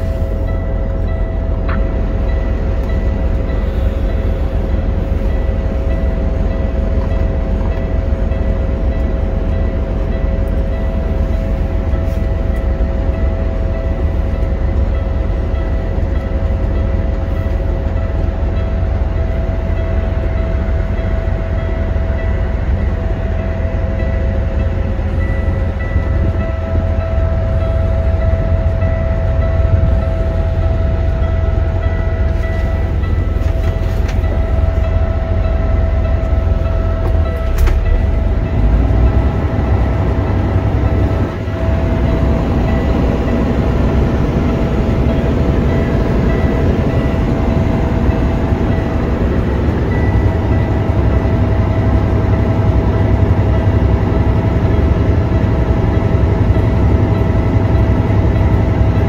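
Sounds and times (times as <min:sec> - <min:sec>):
steady whine: 0:00.0 - 0:59.0
truck diesel engine rumbling: 0:00.0 - 0:59.0.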